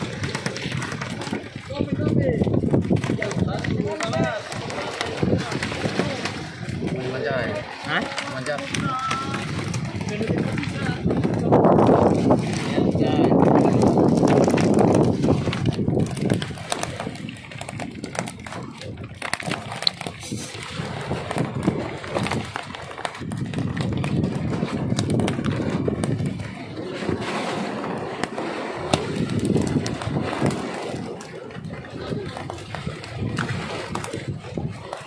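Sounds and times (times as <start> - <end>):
fish flapping on wooden deck: 0.0 - 35.0.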